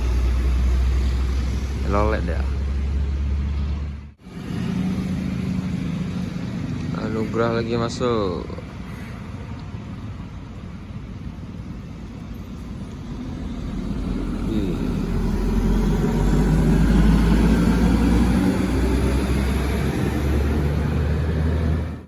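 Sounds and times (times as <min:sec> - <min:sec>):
diesel bus engine passing: 0:00.0 - 0:22.0.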